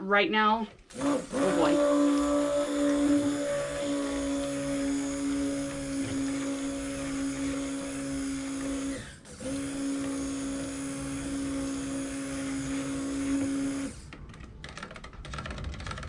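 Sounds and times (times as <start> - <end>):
stick blender motor hum: 0.9 - 14.4.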